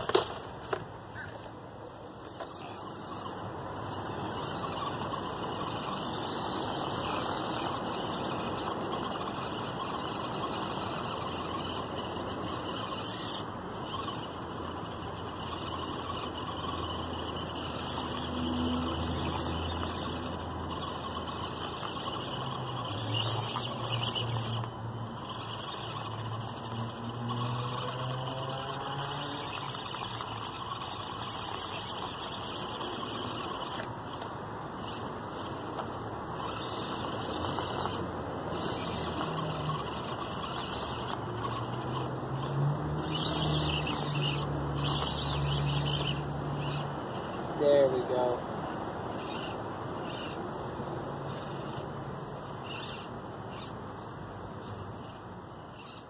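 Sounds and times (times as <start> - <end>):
small electric motor whirring: 0.0 - 56.0.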